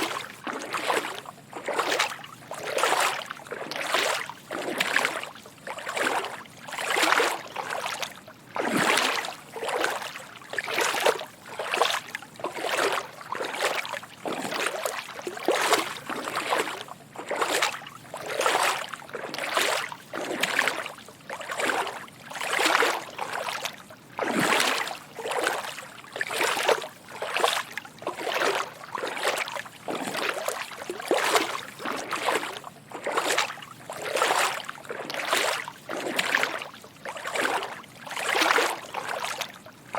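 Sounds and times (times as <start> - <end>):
footsteps wading through water: 0.0 - 39.9.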